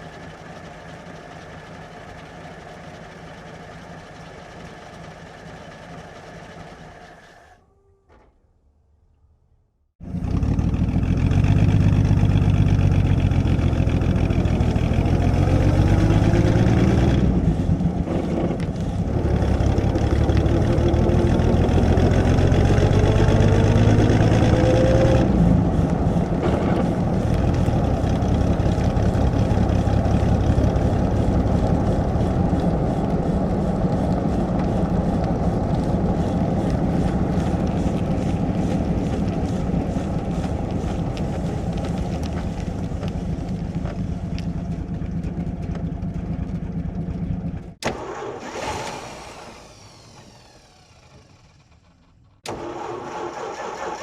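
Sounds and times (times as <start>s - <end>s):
car engine driving off: 0.0s - 7.6s, 10.0s - 54.0s.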